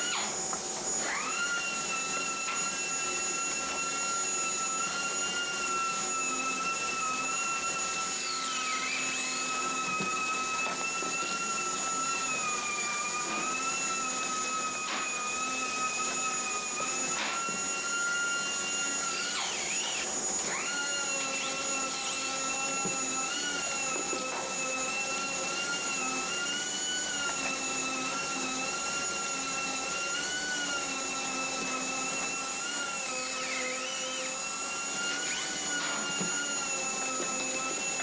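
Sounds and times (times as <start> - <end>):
electric drill motor whine: 0.0 - 38.0.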